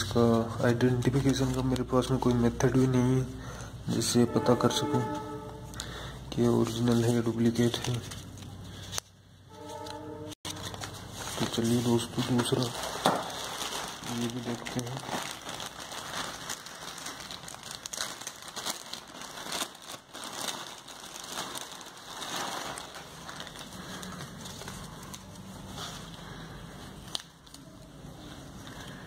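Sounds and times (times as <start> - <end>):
plastic bag crinkling: 0.8 - 3.2, 5.0 - 9.0, 10.5 - 27.8.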